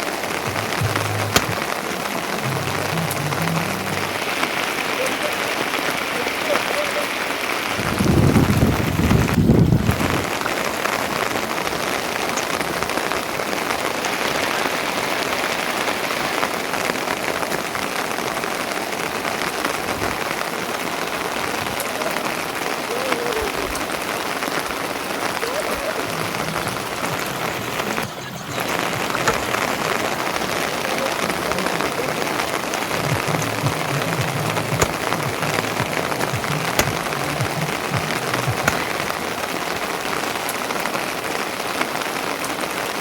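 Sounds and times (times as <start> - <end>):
rain pattering: 0.0 - 43.0.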